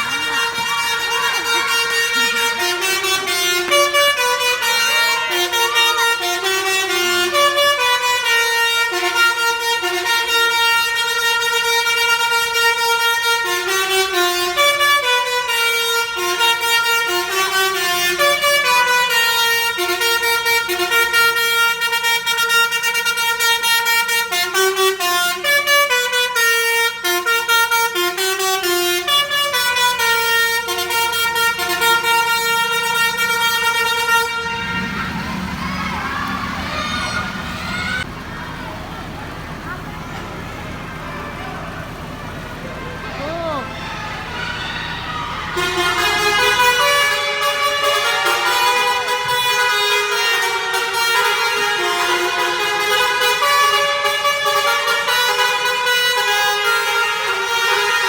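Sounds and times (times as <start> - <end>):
musical bus air horn playing a tune: 0.0 - 58.0.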